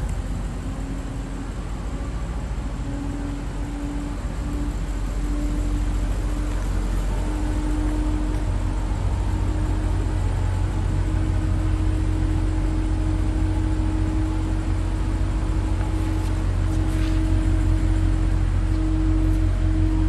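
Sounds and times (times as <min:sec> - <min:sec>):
car engine idling: 0:00.0 - 0:20.0
faint steady tone: 0:00.0 - 0:20.0.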